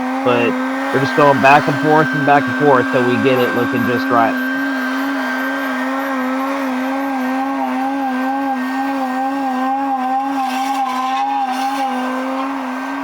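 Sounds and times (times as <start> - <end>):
sped-up engine whine: 0.0 - 13.0.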